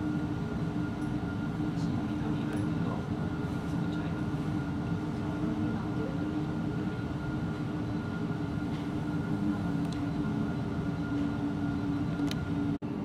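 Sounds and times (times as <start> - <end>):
faint steady tones: 0.0 - 12.8
machine hum and rumble: 0.0 - 13.0.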